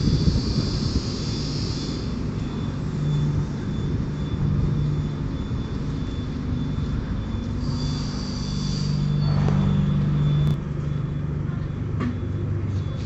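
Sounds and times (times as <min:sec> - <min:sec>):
high squeal: 0:00.0 - 0:10.5
train wheels rumbling: 0:00.0 - 0:13.0.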